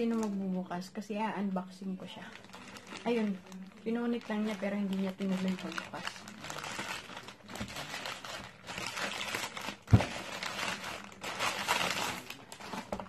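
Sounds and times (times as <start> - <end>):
plastic mailer bag crinkling: 2.1 - 13.0.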